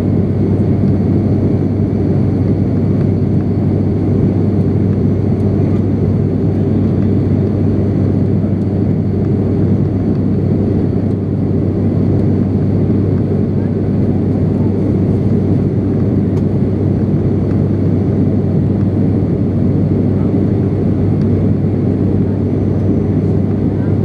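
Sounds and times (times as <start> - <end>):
propeller plane cabin drone: 0.0 - 24.0.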